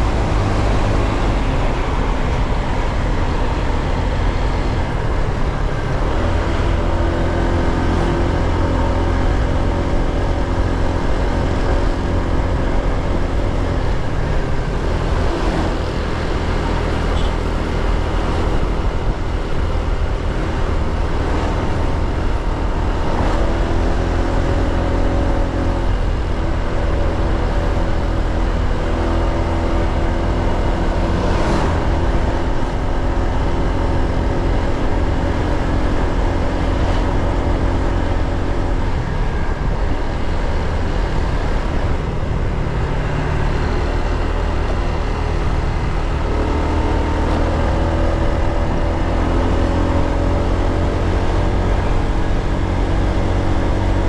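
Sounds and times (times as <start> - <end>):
low road rumble: 0.0 - 54.0.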